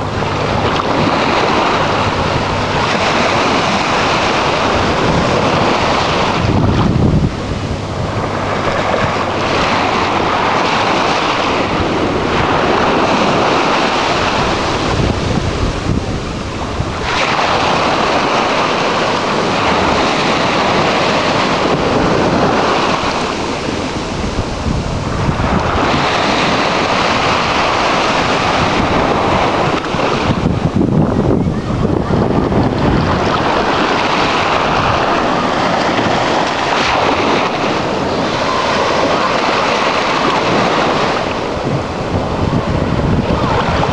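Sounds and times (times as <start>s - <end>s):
small waves breaking on sand: 0.0s - 31.1s, 31.7s - 43.9s
wind buffeting microphone: 0.0s - 43.9s.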